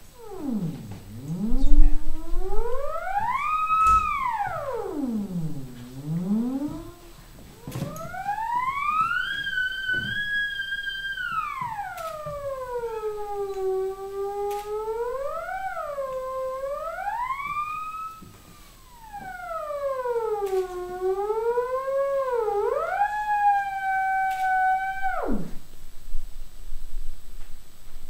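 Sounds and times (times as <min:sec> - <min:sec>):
theremin sliding tone: 0:00.0 - 0:25.8.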